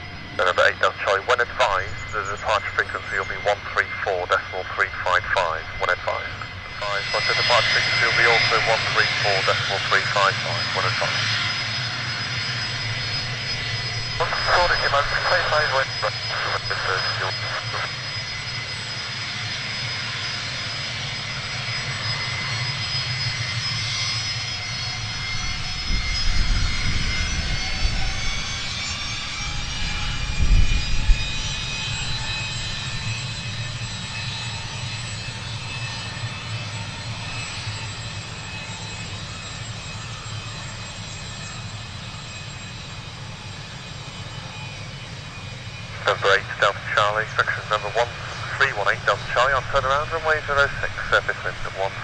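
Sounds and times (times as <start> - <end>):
jet engine whine: 0.0 - 52.0.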